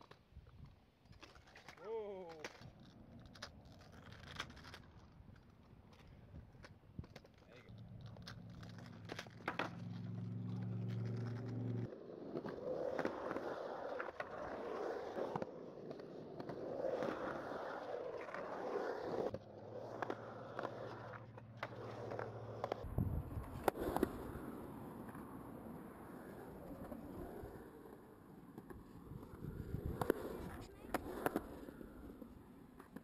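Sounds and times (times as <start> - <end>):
hard wheels rolling on concrete: 2.4 - 33.0.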